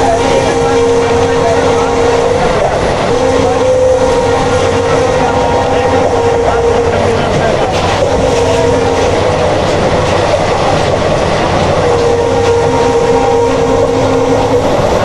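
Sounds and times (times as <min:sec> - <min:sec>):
locomotive horn blasts: 0:00.0 - 0:15.0
train rumble and wheel clatter: 0:00.0 - 0:15.0.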